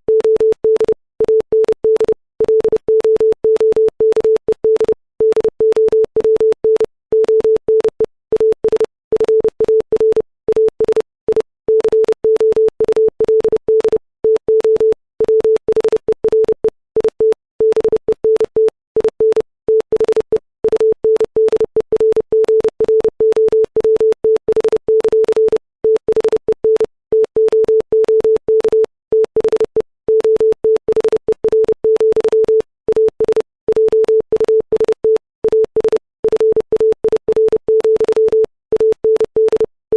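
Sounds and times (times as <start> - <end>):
morse code tone beeps: 0.1 - 39.8.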